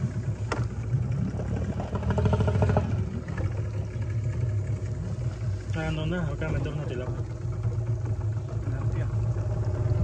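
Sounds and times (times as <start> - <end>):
boat motor running: 0.0 - 10.0.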